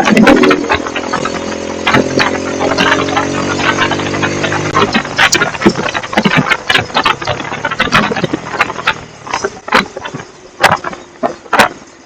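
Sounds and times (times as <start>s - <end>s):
exhaust pops and crackles: 0.0s - 12.0s
motorcycle engine and exhaust: 0.0s - 12.0s.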